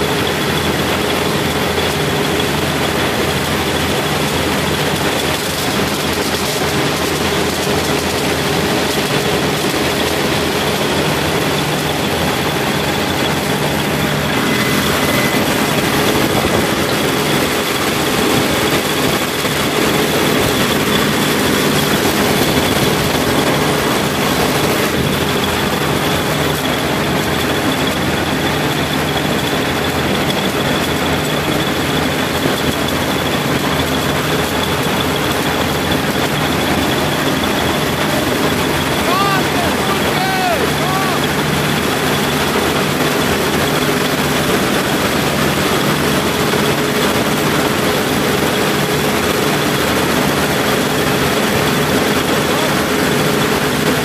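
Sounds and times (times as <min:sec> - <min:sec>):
combine harvester running: 0:00.0 - 0:54.0
constant high whine: 0:00.0 - 0:54.0.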